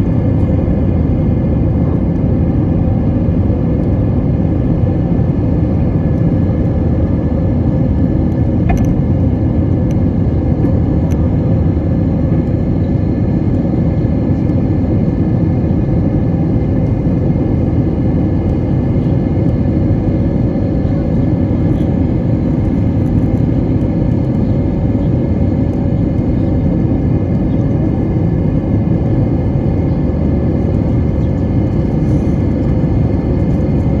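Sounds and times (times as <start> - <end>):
jet engines roaring at takeoff: 0.0 - 34.0.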